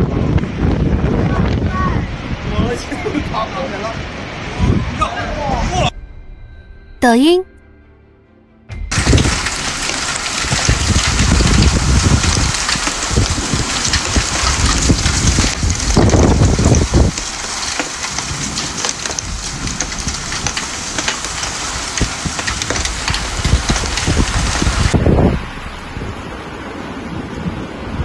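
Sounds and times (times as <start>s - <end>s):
heavy rain pattering: 0.0s - 5.6s, 8.8s - 28.0s
wind gusts buffeting microphone: 0.0s - 5.9s, 8.9s - 28.0s.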